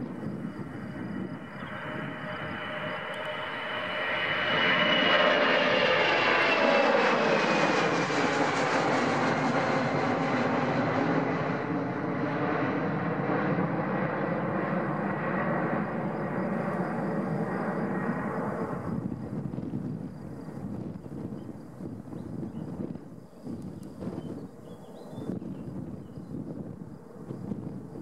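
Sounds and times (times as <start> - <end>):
jet engine roar with falling whine: 0.0 - 28.0.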